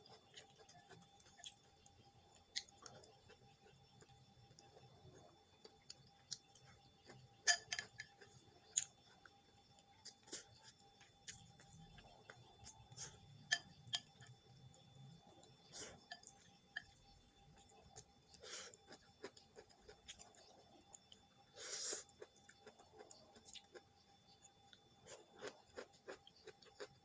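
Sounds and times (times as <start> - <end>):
chewing: 0.0 - 13.3, 17.6 - 24.0, 24.7 - 27.0.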